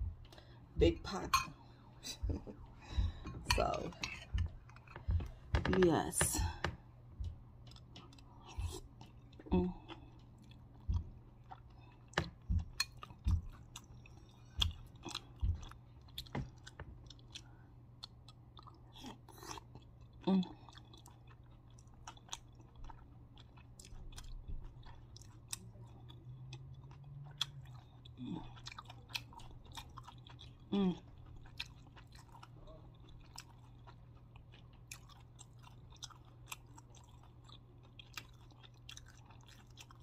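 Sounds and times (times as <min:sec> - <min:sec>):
person chewing food: 0:00.0 - 0:00.8, 0:01.6 - 0:05.7, 0:06.4 - 0:40.0
steady low hum: 0:00.0 - 0:40.0.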